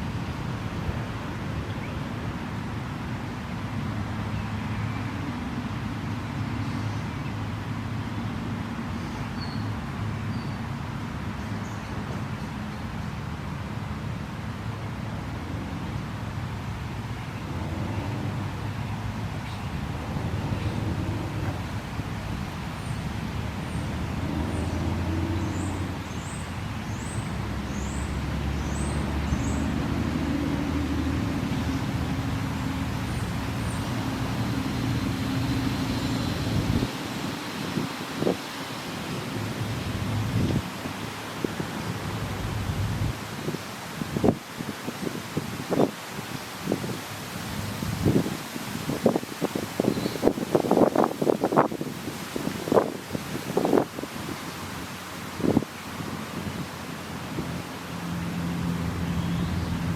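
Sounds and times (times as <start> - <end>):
low creek rumble: 0.0 - 59.9
road traffic: 0.0 - 59.9.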